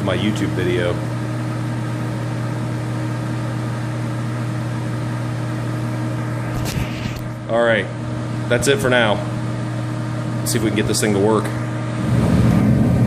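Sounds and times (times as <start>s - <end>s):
heater fan motor humming: 0.0s - 13.0s.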